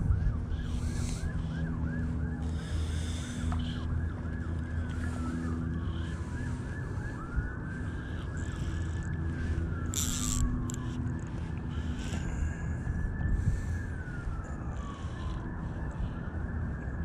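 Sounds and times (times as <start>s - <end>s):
distant emergency siren: 0.0s - 17.0s.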